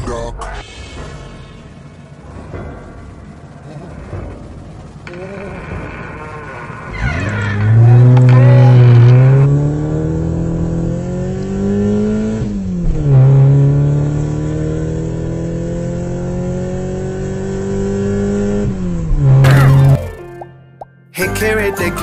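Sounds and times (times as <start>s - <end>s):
vehicle engine accelerating: 1.4s - 20.3s.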